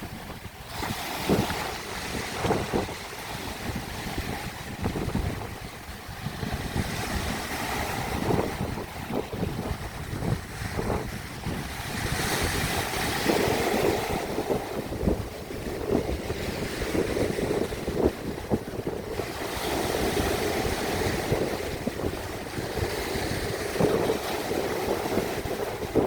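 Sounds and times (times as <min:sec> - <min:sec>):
sea waves washing on shore: 0:00.0 - 0:26.0
wind buffeting microphone: 0:00.0 - 0:26.0.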